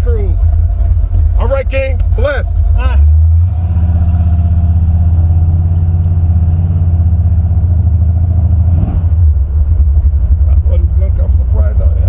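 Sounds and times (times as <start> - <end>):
vee eight engine running: 0.0 - 12.0.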